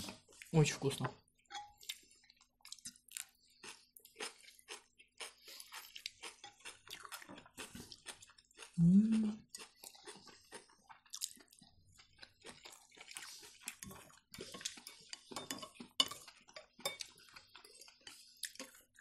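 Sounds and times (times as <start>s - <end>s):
chewing and mouth smacks: 1.8s - 19.0s.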